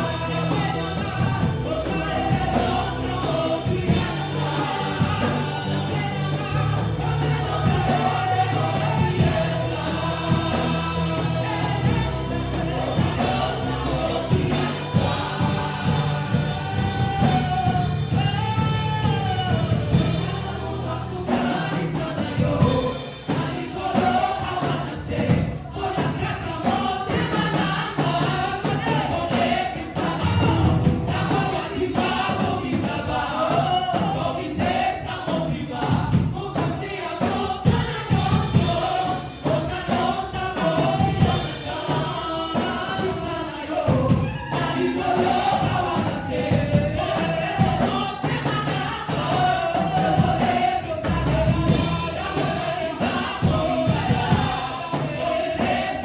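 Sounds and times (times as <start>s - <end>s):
band with bass and drums: 0.0s - 56.0s
choir singing gospel music: 0.0s - 56.0s.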